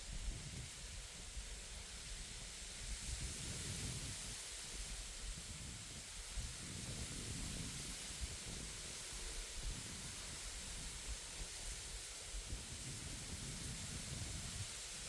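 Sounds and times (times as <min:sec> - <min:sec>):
low rumble of wind gusts: 0:00.0 - 0:15.0
wind rustling through reeds: 0:00.0 - 0:15.0.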